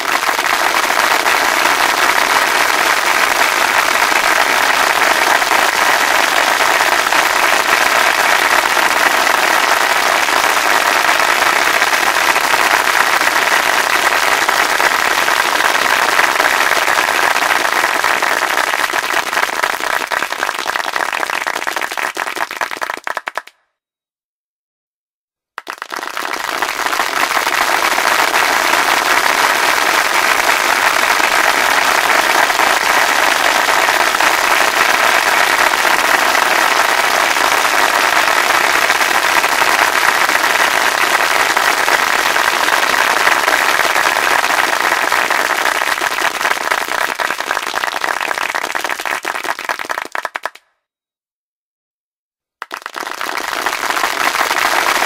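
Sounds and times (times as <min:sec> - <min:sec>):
crowd applauding: 0:00.0 - 0:23.5, 0:25.6 - 0:50.6, 0:52.6 - 0:55.0.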